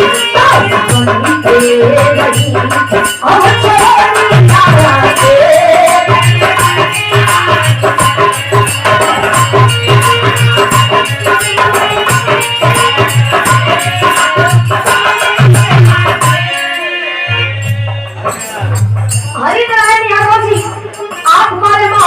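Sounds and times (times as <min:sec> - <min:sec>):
shaker percussion beat: 0:00.0 - 0:16.9, 0:17.6 - 0:22.0.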